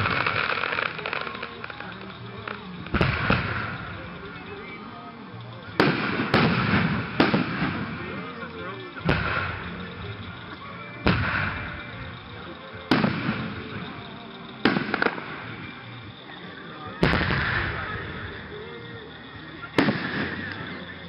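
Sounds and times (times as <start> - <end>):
firework shells booming: 0.0 - 4.8, 5.7 - 16.2, 17.0 - 21.0
firework crack: 0.0 - 21.0.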